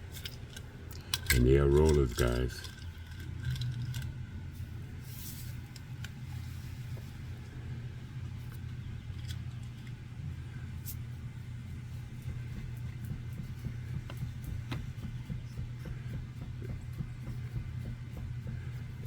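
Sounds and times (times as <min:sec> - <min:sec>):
turntable motor humming: 0:00.0 - 0:19.0.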